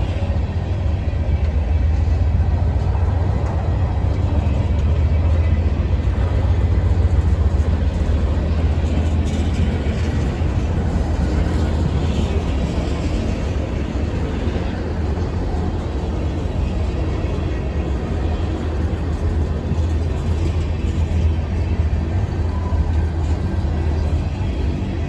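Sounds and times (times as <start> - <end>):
diesel locomotive rumbling: 0.0 - 25.0.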